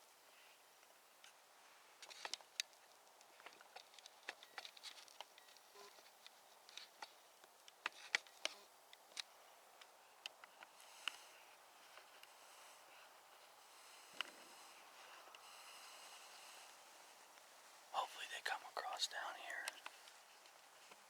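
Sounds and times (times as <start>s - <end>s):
faint irregular clicks: 0.1s - 21.0s.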